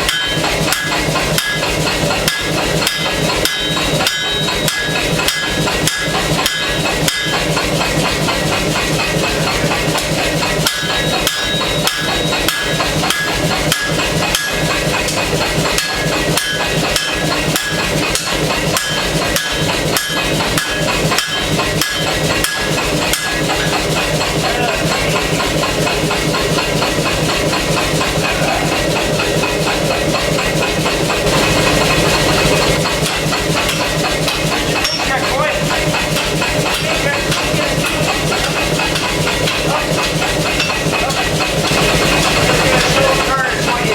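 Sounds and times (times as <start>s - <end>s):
air hammer pounding steel: 0.0s - 43.9s
steady machine drone: 0.0s - 43.9s.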